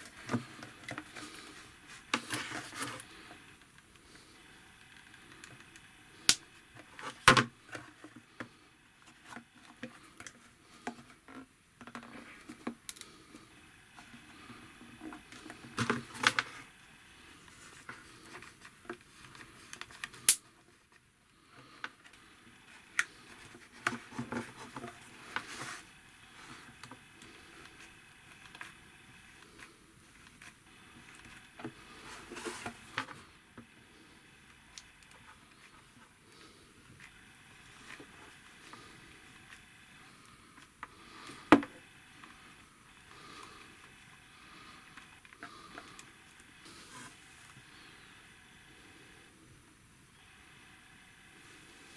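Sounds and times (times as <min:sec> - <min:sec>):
rustling: 0:00.0 - 0:49.2.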